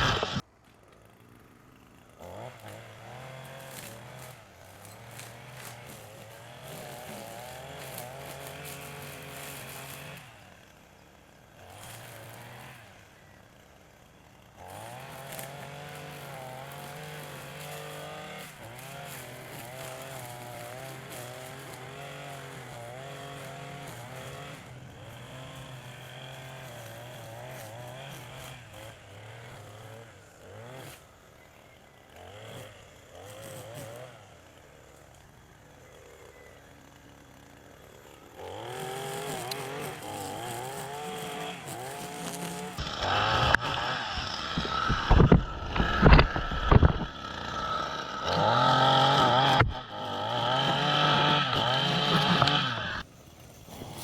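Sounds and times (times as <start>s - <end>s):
small petrol engine revving: 0.0s - 54.0s.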